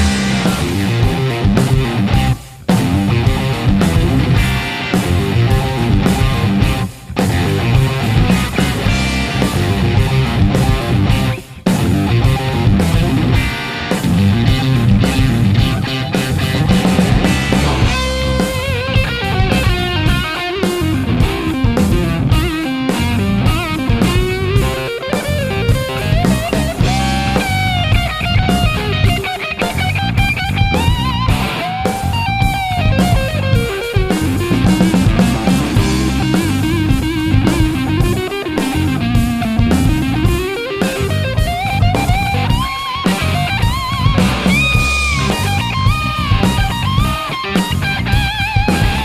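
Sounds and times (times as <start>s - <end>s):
overdriven electric guitar lead: 0.0s - 49.0s
rock band drums and bass: 0.0s - 49.0s.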